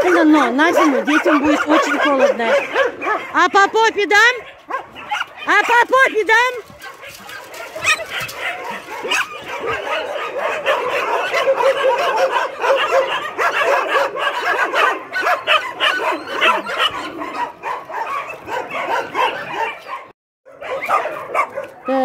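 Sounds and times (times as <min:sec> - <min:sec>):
many dogs barking: 0:00.0 - 0:22.0.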